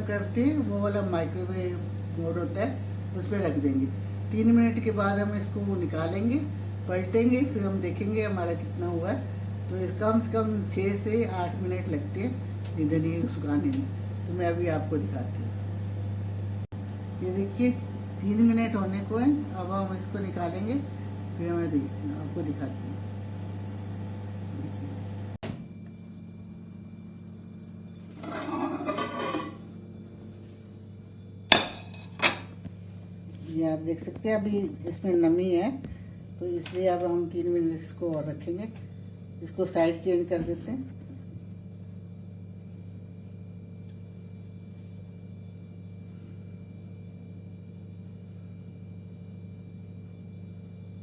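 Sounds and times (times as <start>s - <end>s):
microwave oven humming: 0.0s - 51.0s.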